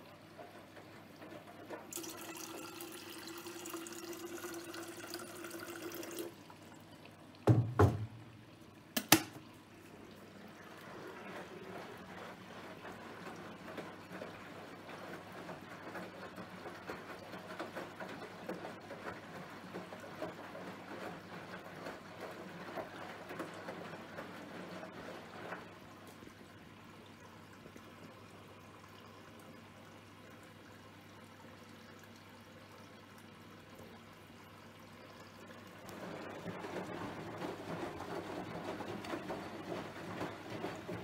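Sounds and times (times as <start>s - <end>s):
water splashing in washing machine drum: 0.2s - 28.9s, 35.4s - 41.0s.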